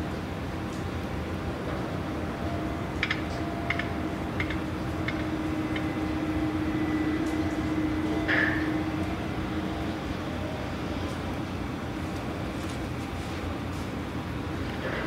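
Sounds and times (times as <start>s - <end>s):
crane machinery drone: 0.0s - 15.0s.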